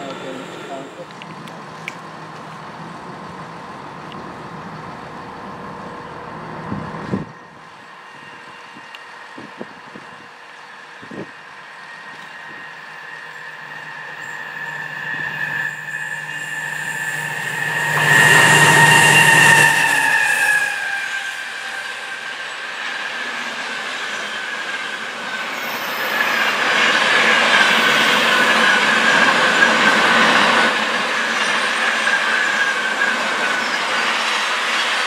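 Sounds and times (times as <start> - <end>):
train passing with high whine: 0.0 - 35.0.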